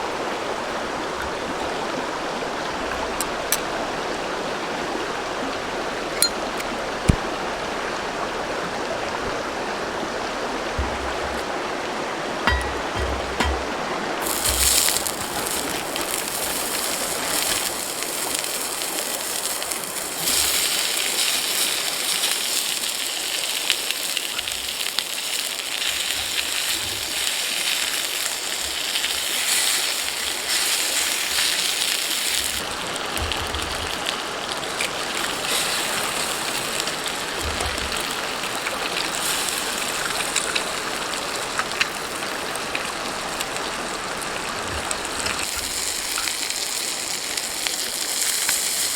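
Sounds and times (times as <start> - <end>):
river water flowing: 0.0 - 48.9.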